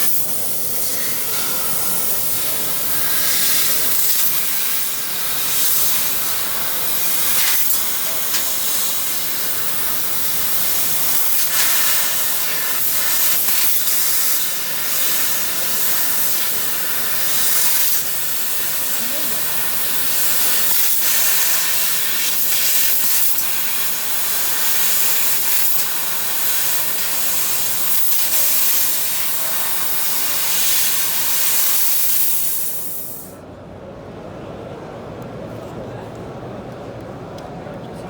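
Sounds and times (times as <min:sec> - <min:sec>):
assist gas hissing: 0:00.0 - 0:33.4.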